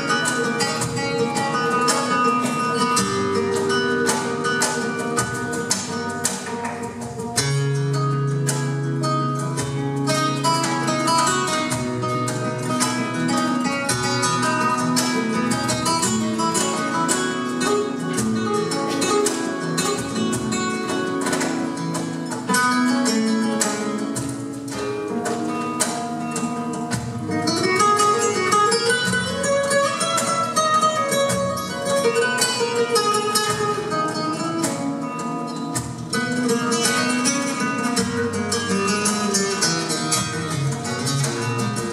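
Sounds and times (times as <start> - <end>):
flamenco guitar music: 0.0 - 41.9.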